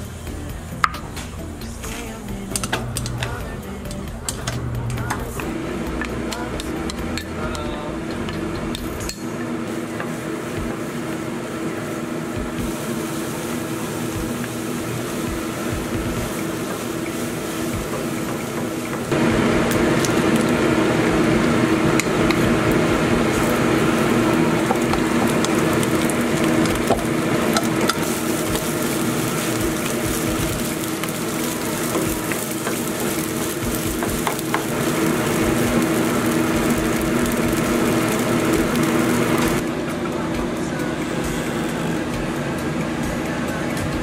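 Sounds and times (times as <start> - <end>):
food sizzling in a frying pan: 0.0 - 39.6
steady hum: 0.0 - 44.0.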